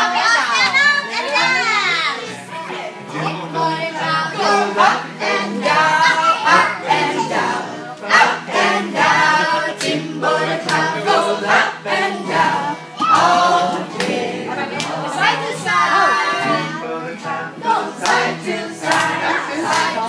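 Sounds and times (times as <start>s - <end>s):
children's dance music: 0.0s - 20.0s
group of voices singing: 0.0s - 20.0s.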